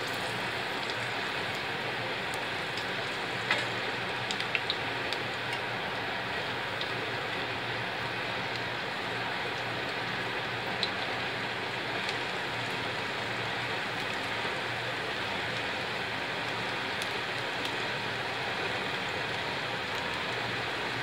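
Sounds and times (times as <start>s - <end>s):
deep-frying sizzling and bubbling: 0.0s - 21.0s.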